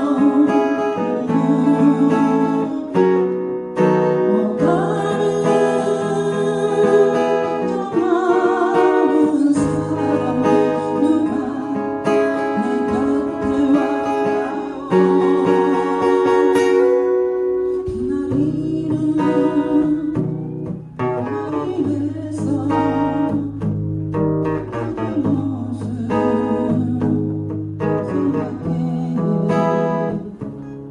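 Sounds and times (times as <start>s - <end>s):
acoustic guitar strumming: 0.0s - 30.9s
person singing a ballad: 0.0s - 30.9s.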